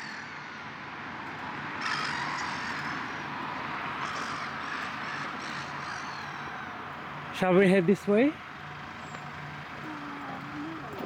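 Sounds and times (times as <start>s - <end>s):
motor vehicle passing: 1.8s - 11.0s.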